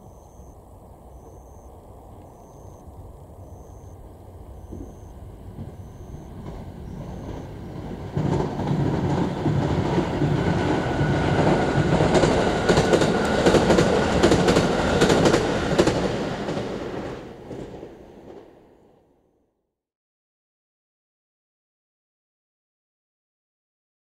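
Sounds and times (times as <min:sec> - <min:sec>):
electric train passing: 0:00.0 - 0:19.3.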